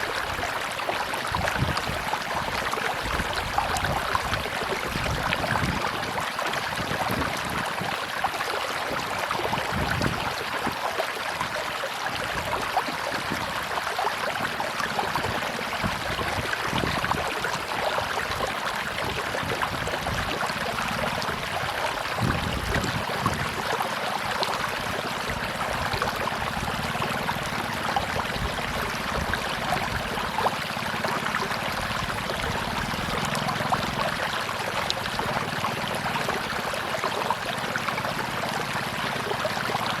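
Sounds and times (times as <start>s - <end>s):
river water rushing over rocks: 0.0s - 40.0s.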